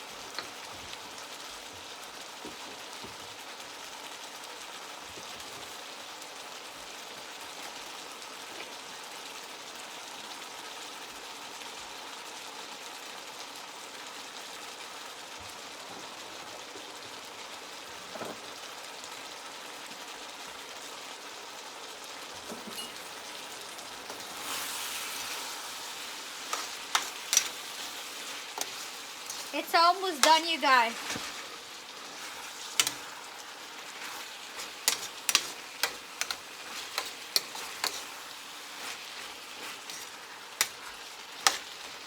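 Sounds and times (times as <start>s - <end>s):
food sizzling in a frying pan: 0.0s - 42.0s.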